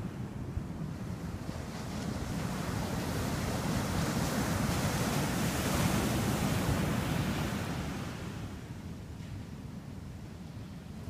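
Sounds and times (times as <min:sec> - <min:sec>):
small waves breaking on beach: 0:00.1 - 0:09.7.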